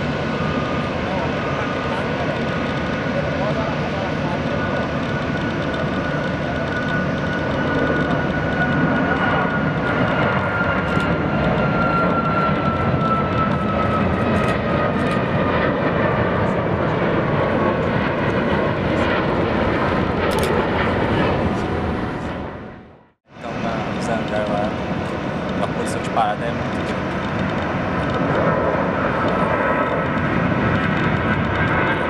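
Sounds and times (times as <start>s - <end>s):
jet airliner taking off: 0.0s - 32.0s.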